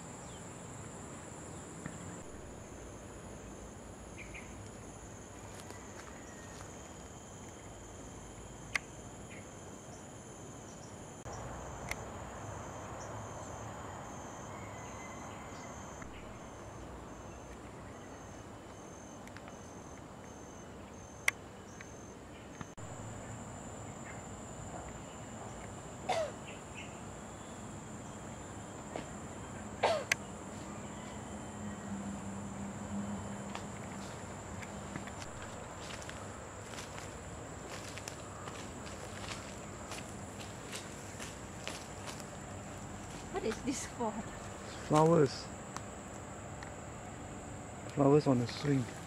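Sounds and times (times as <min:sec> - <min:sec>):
insect pulsing trill: 0:00.0 - 0:46.9
high-pitched insect chorus: 0:00.0 - 0:49.0.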